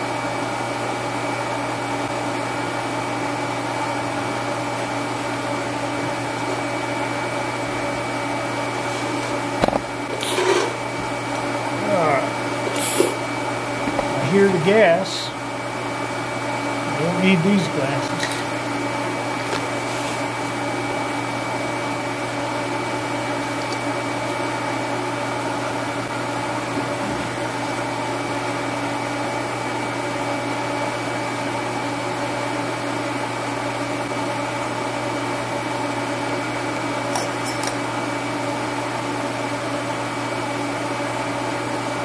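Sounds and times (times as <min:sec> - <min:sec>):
electric fan humming: 0:00.0 - 0:42.0.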